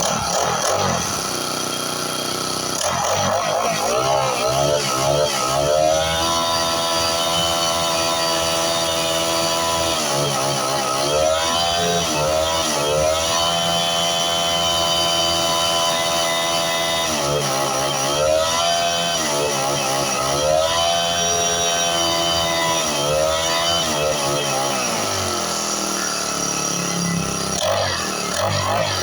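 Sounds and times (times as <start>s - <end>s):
grass cutter engine revving: 0.0s - 29.0s.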